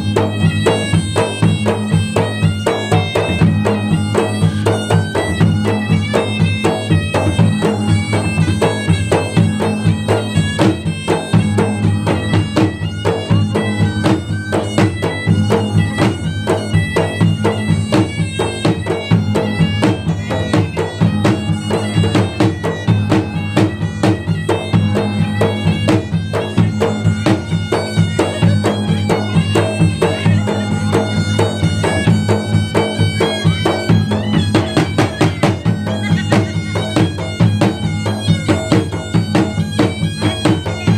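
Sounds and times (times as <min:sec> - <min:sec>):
fast barrel drumming: 0:00.0 - 0:40.9
shrill reed wind instrument melody: 0:00.0 - 0:40.9.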